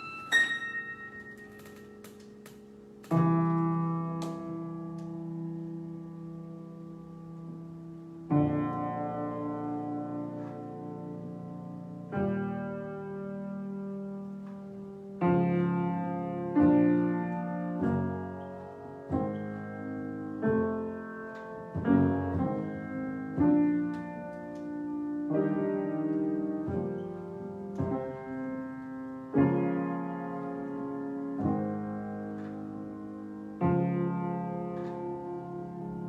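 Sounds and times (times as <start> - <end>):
slow piano chords: 0.0 - 36.0.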